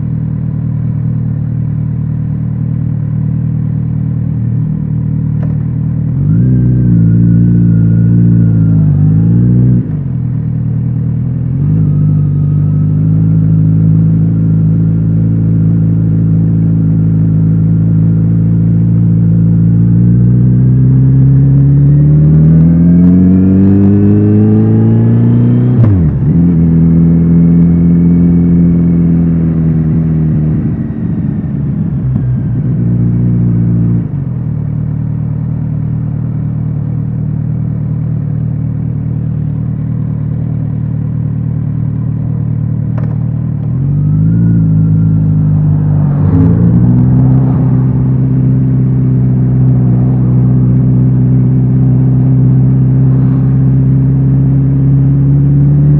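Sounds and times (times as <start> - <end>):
motorcycle engine and exhaust: 0.0 - 55.9.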